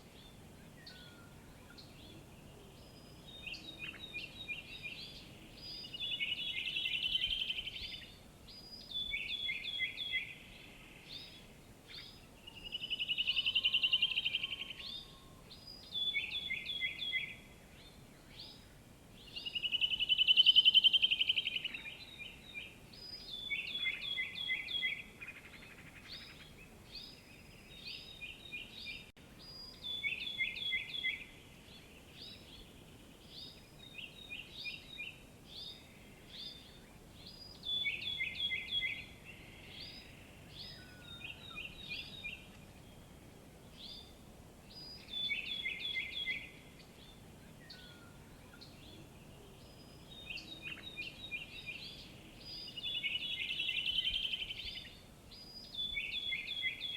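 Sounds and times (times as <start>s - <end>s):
faint background hiss: 0.0s - 56.9s
bird chirps: 0.2s - 43.1s, 43.7s - 56.9s.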